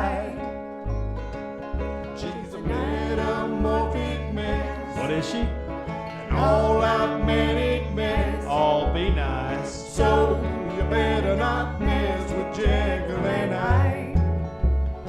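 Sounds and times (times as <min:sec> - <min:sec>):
person singing: 0:00.0 - 0:00.6, 0:02.1 - 0:14.4
held bass notes: 0:00.0 - 0:15.0.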